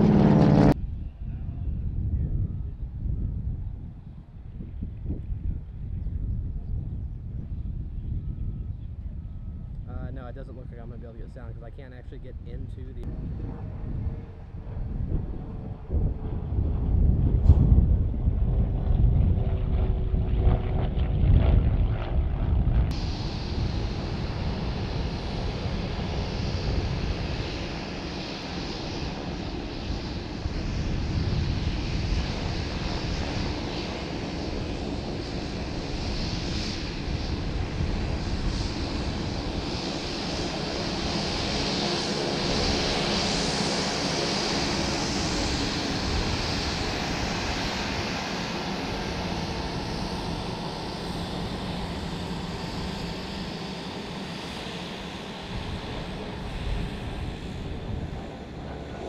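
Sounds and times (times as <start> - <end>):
distant propeller aircraft drone: 0.0 - 59.0
wind buffeting microphone: 0.0 - 59.0.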